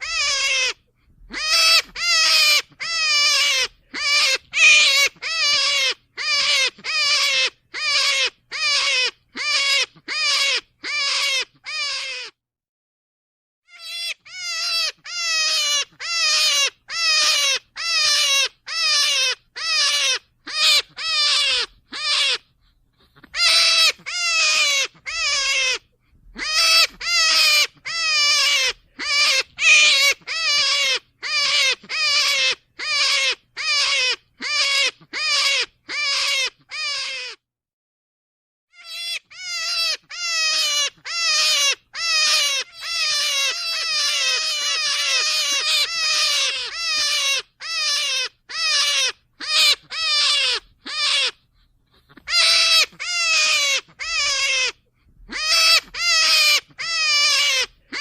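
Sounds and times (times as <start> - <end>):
rabbit squealing: 0.0 - 12.4, 13.7 - 37.4, 38.7 - 58.0.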